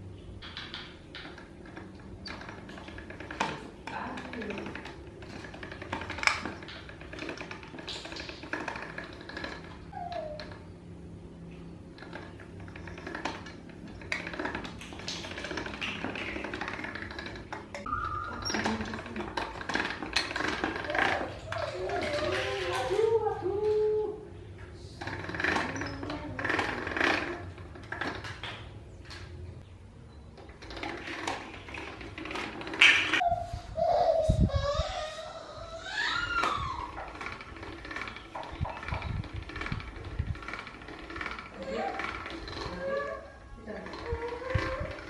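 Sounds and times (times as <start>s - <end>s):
pasta machine clicking and rattling: 0.4s - 10.7s, 11.8s - 23.8s, 25.0s - 28.6s, 30.4s - 33.2s, 35.8s - 45.0s.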